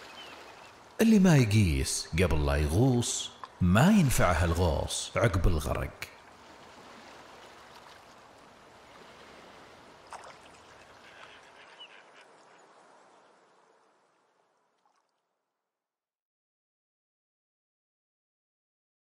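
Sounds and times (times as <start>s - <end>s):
water-like noise: 0.0s - 15.5s.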